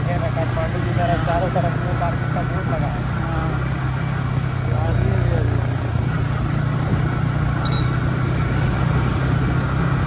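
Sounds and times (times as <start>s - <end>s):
motorcycle engine humming: 0.0s - 10.0s
wind and road noise: 0.0s - 10.0s.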